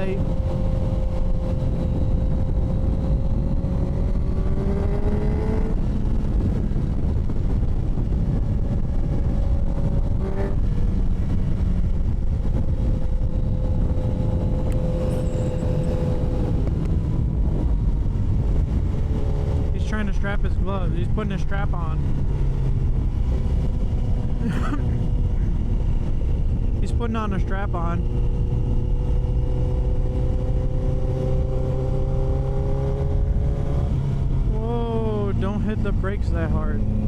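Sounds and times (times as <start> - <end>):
motorcycle engine running: 0.0 - 37.0
wind rush: 0.0 - 37.0.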